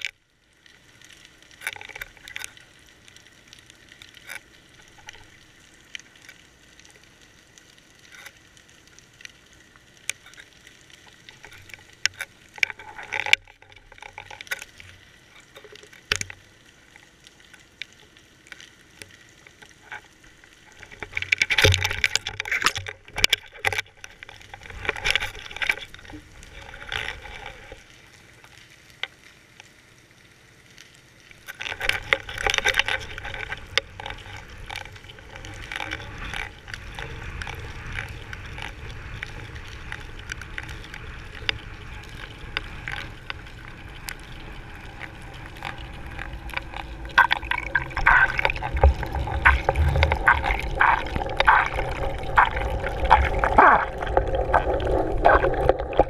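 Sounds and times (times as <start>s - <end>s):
underwater clicks and crackles: 0.0s - 56.0s.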